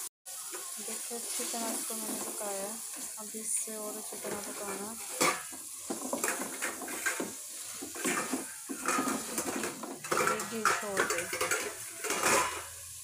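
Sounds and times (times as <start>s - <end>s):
spatula scraping metal pot: 0.9s - 12.8s.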